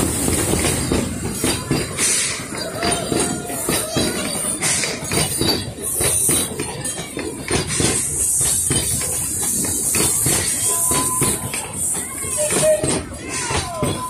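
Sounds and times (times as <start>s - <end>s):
steady steam hiss: 0.0s - 6.7s, 7.3s - 13.9s
train wheels clacking over rail joints: 0.0s - 14.0s.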